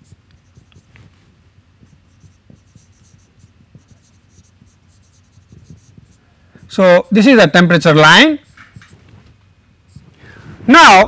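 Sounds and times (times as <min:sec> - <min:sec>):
marker pen scratching on whiteboard: 0:00.0 - 0:09.3, 0:09.9 - 0:10.2.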